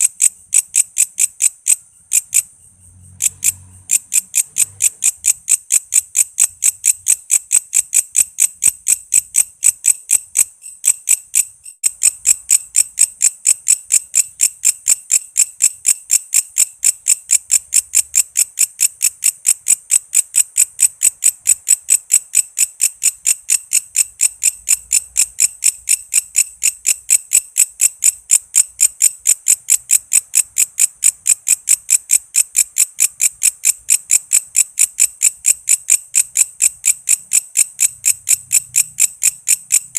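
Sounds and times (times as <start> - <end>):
katydid chirping: 0.0 - 39.9.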